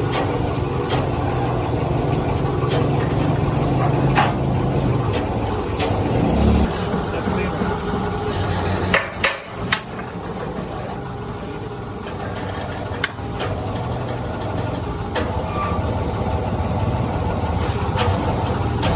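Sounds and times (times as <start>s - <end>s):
hydraulic press pump humming: 0.0s - 18.9s.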